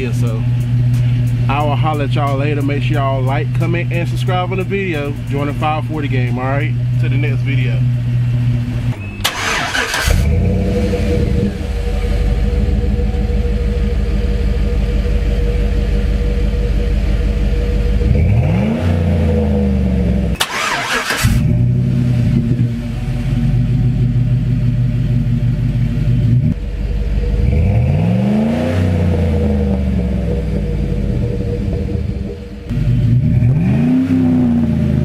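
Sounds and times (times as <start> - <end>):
engine idling and revving: 0.0 - 35.0.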